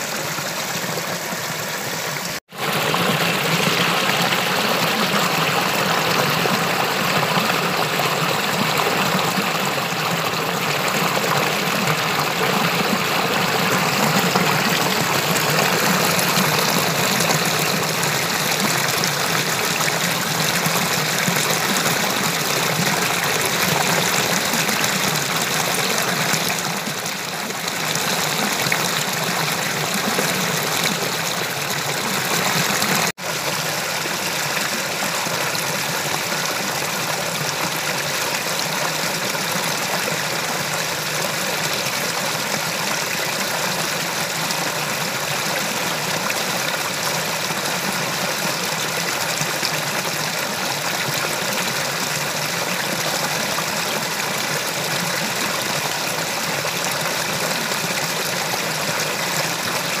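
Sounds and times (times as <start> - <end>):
stream pouring over rocks: 0.0 - 60.0.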